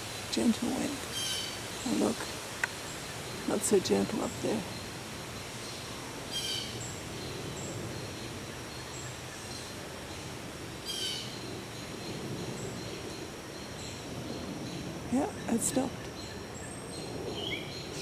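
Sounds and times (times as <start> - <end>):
wind rustling through leaves: 0.0 - 18.0.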